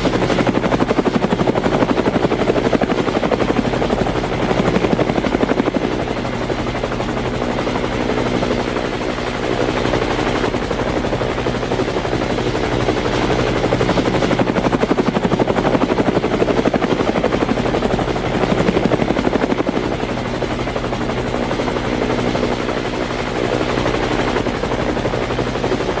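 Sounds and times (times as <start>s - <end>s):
helicopter engine drone: 0.0s - 26.0s
helicopter rotor chopping: 0.0s - 26.0s.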